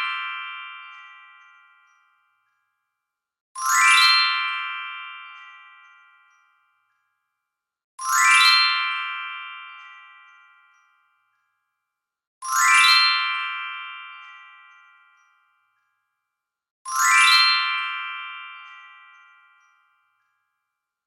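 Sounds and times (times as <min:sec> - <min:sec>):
sparkling bell-like chimes: 0:00.0 - 0:21.0.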